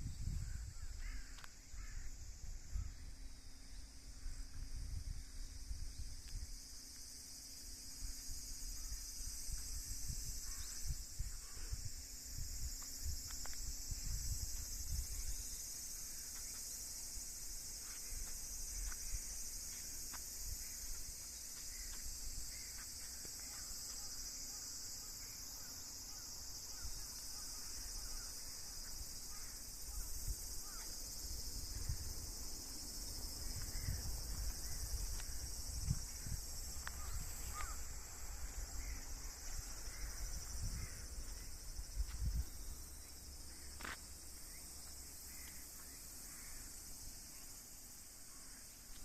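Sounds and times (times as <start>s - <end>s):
wind rumbling on microphone: 0.0s - 6.8s, 7.4s - 23.7s, 26.7s - 43.6s
insects chirring: 0.0s - 49.0s.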